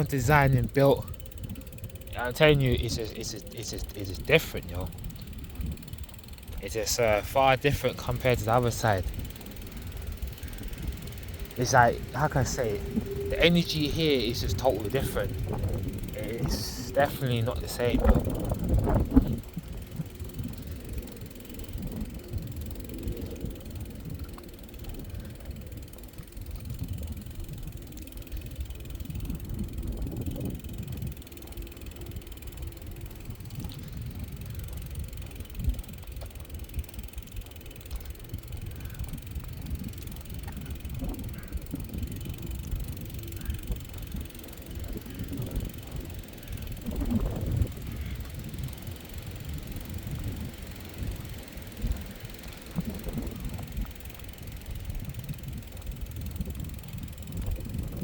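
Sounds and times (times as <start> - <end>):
bicycle tyres rumbling: 0.0 - 58.0
wind on microphone: 0.0 - 58.0.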